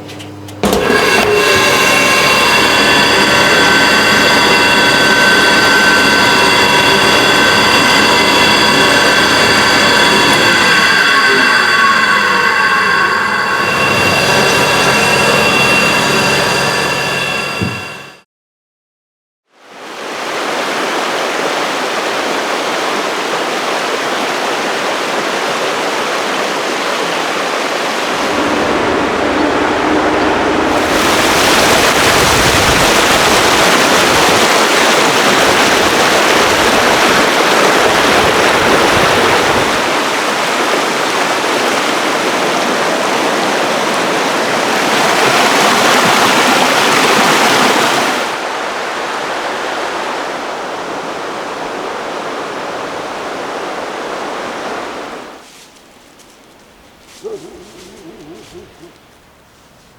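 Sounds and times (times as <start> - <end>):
running water rushing: 0.6 - 18.1, 19.6 - 55.4.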